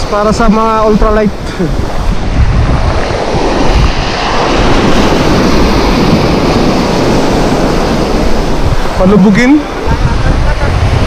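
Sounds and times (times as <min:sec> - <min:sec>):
surf washing up pebble beach: 0:00.0 - 0:11.0
wind buffeting microphone: 0:00.0 - 0:11.0.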